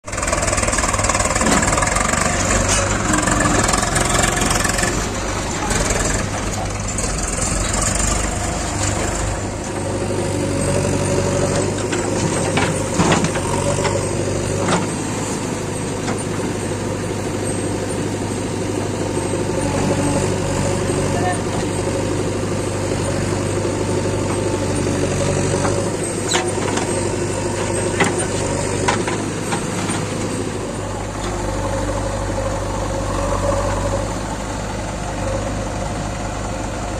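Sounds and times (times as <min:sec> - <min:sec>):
heavy diesel engines running: 0:00.0 - 0:36.9.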